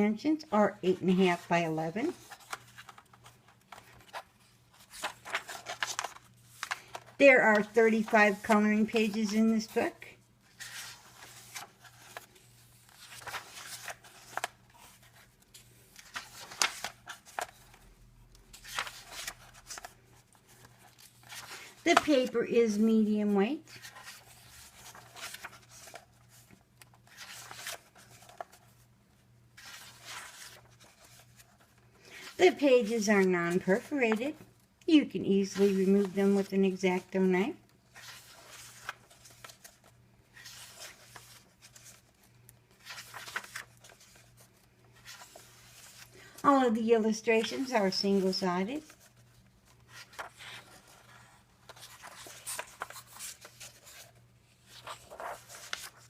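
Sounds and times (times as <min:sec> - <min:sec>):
book pages turning: 0:00.9 - 0:28.9, 0:29.5 - 0:56.0.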